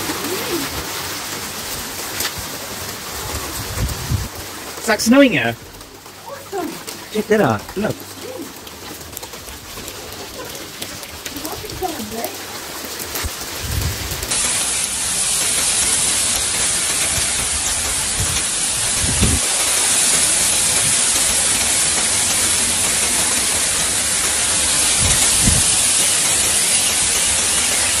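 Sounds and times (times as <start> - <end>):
hail pelting the ground: 0.0 - 28.0.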